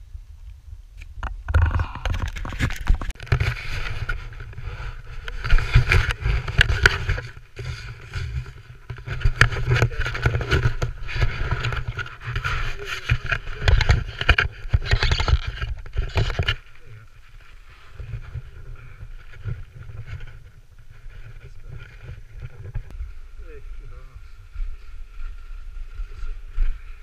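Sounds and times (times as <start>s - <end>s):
wind rumble on microphone: 0.0s - 27.0s
skis scraping over snow: 3.3s - 27.0s.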